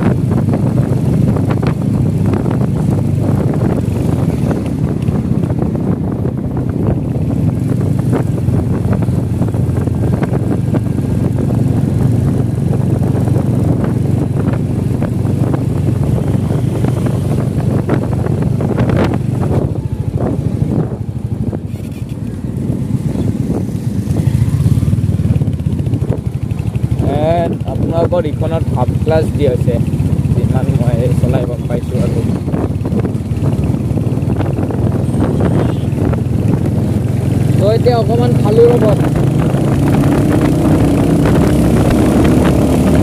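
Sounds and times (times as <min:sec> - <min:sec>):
motorcycle engine running: 0:00.0 - 0:43.0
wind buffeting microphone: 0:00.0 - 0:43.0.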